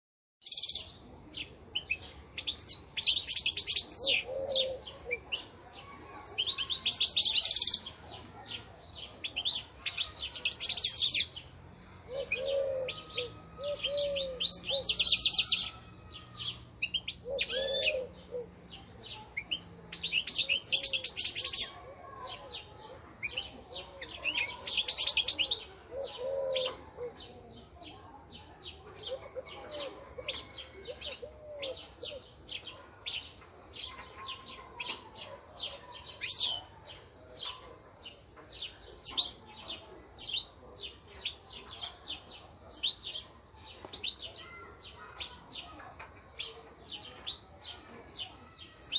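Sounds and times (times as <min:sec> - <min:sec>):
songbirds twittering trills: 0:00.4 - 0:48.9.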